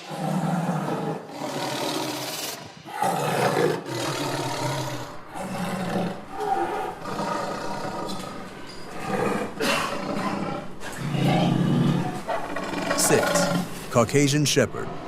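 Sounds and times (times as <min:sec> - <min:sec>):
large animal growling roars: 0:00.0 - 0:13.7.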